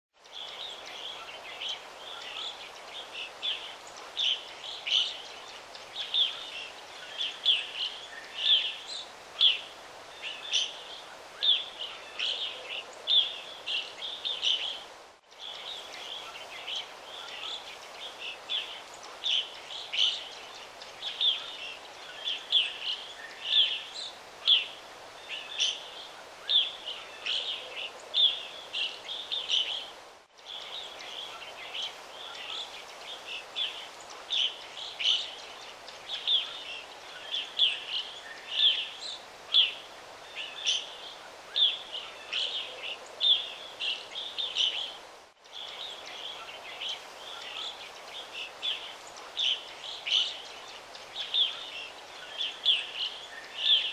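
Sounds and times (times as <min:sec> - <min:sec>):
birds chirping: 0:00.2 - 0:53.9
steady background hiss: 0:00.2 - 0:53.9.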